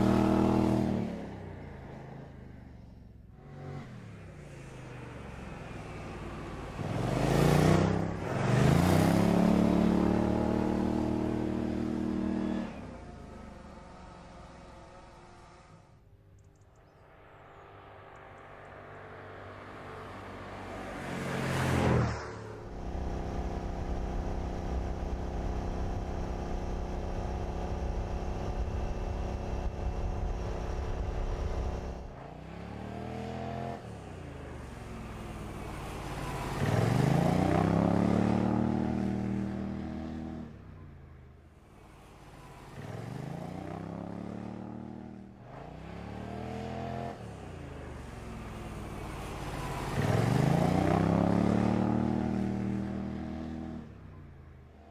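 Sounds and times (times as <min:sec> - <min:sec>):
car engine accelerating: 0:03.3 - 0:15.8, 0:19.5 - 0:54.9.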